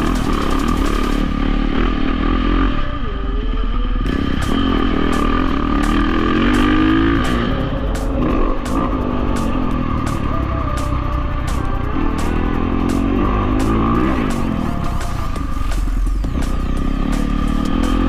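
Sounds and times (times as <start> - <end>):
dirt bike engine revving: 0.0 - 3.0, 3.9 - 18.0.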